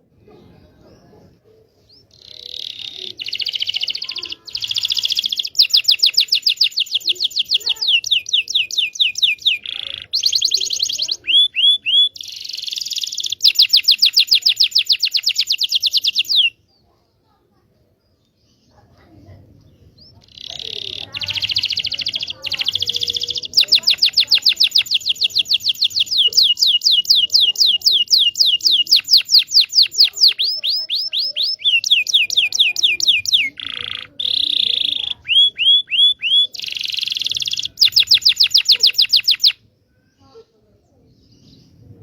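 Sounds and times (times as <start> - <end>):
canary singing: 0.0 - 16.8, 19.6 - 39.7.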